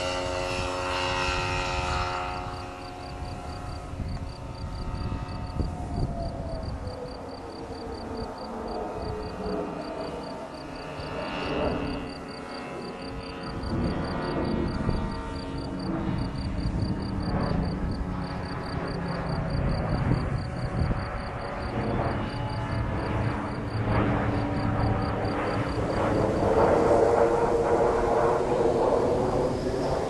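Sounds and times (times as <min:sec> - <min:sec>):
model plane engine overhead: 0:00.0 - 0:30.0.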